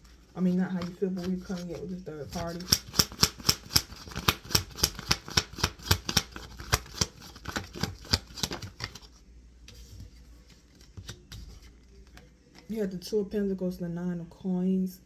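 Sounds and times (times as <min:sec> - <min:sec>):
cards being shuffled: 0:00.0 - 0:12.7
faint card handling: 0:00.0 - 0:12.8.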